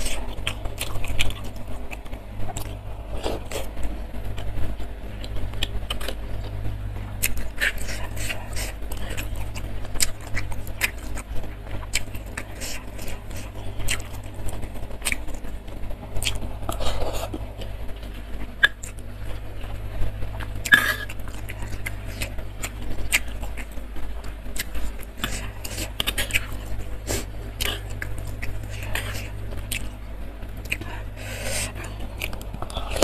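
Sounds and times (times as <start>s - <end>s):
mouth chewing soft food: 0.0s - 33.0s
steady low hum: 0.0s - 33.0s.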